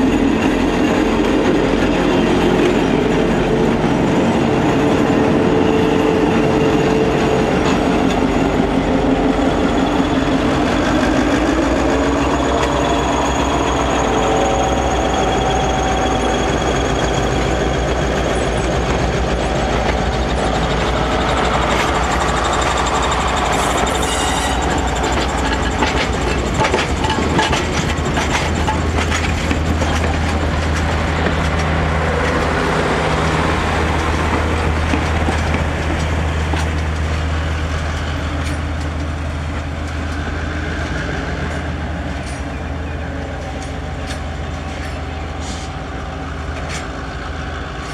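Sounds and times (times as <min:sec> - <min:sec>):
diesel locomotive engine drone: 0:00.0 - 0:47.9
train wheels clicking over rail joints: 0:00.0 - 0:47.9.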